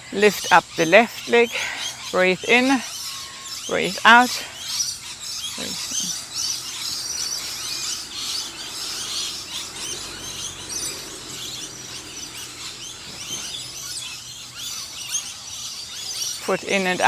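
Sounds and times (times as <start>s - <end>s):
wild birds chirping: 0.0s - 17.0s.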